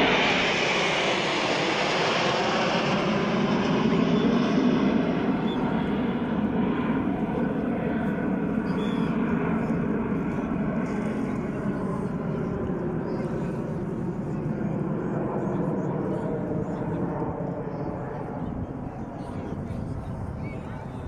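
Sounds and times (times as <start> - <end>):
jet aircraft passing overhead: 0.0 - 21.0.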